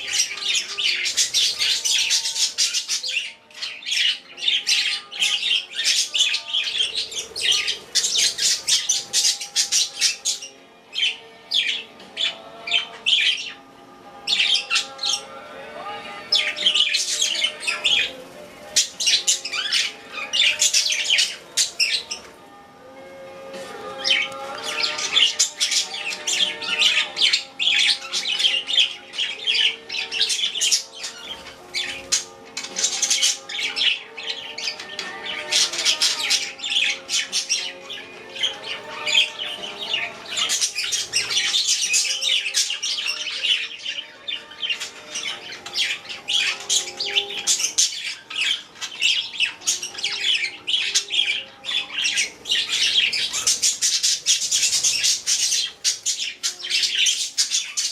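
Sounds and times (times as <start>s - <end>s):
budgerigars chattering and chirping: 0.0s - 22.5s, 23.4s - 57.9s.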